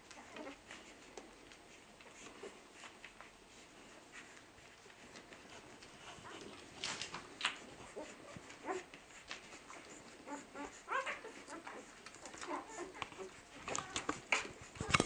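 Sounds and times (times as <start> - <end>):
puppies squeaking and whimpering: 0.1 - 1.1, 1.7 - 15.0.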